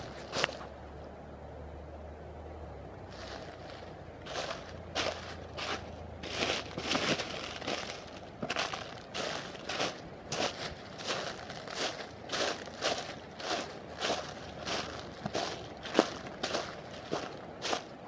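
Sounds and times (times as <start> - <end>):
footsteps crunching dry leaves: 0.0 - 0.7, 3.1 - 18.0.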